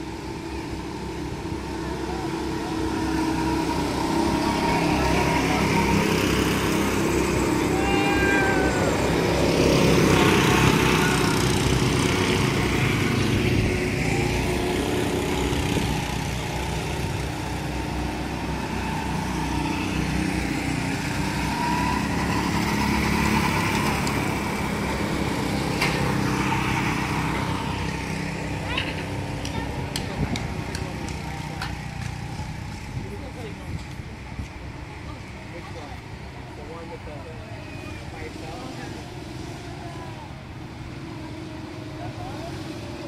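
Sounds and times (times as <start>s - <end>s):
go-kart engines droning: 0.0s - 43.0s.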